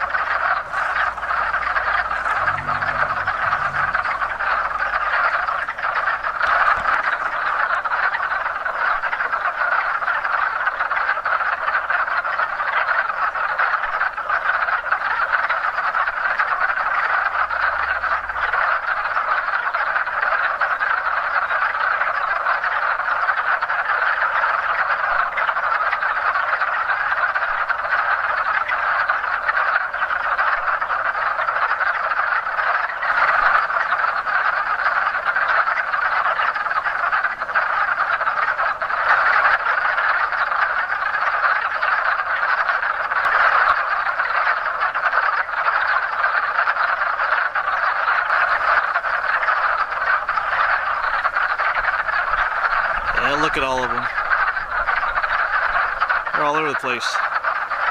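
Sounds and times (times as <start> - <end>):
chorus of frogs calling: 0.0 - 57.9.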